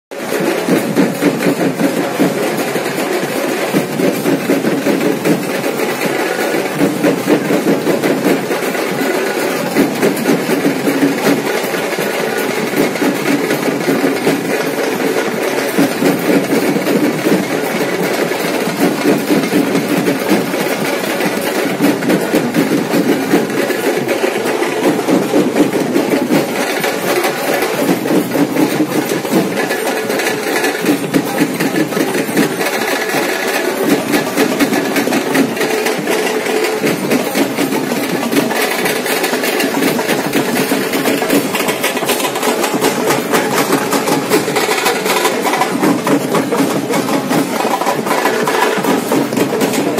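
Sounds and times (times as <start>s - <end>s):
drums and cymbals playing: 0.1s - 49.9s.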